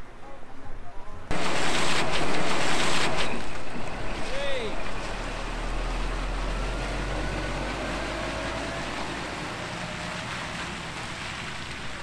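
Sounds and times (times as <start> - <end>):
lorry diesel engine rumbling: 1.3 - 12.0.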